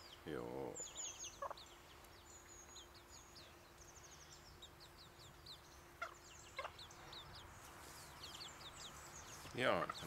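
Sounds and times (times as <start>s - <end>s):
faint high bird chirping: 0.0s - 10.0s.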